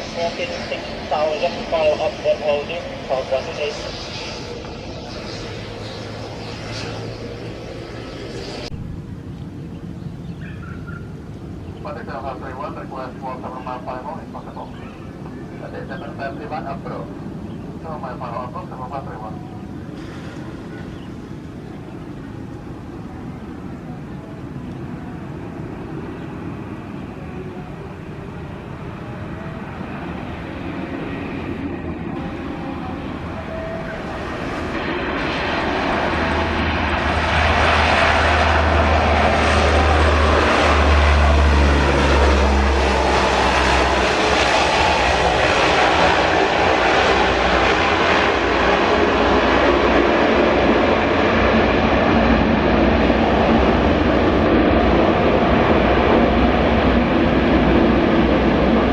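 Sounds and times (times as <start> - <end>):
jet airliner engines: 0.0 - 58.9.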